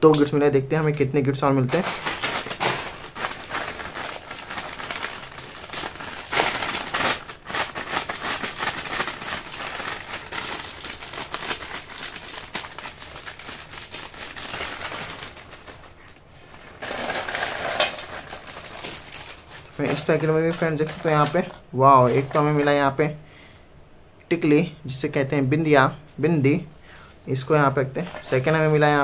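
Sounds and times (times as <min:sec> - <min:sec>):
plastic packet crinkling: 0:01.6 - 0:23.6, 0:26.1 - 0:29.0.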